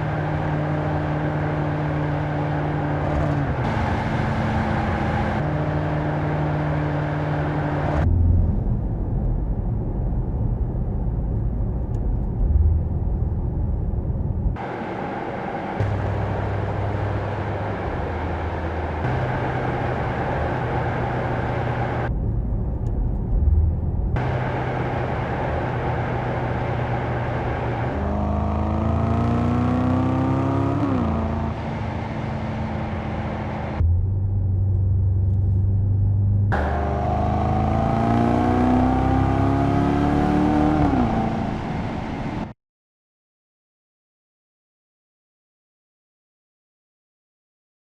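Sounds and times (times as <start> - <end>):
car engine accelerating: 0.0 - 42.5.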